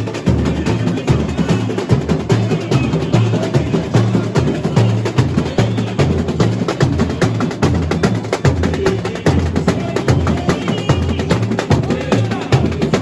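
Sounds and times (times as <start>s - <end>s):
deep bass drums: 0.0s - 13.0s
rapid snare drums: 0.0s - 13.0s
samba drumming: 0.0s - 13.0s.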